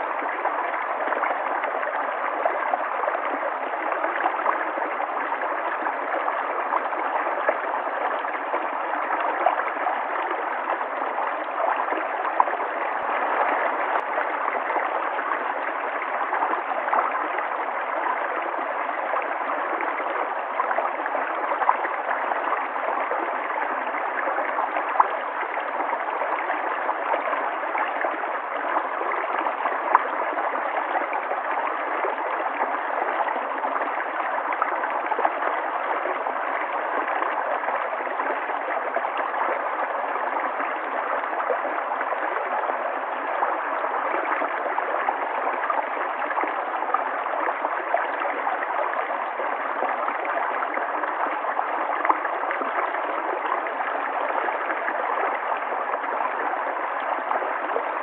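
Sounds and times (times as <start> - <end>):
river water over rocks: 0.0 - 58.0.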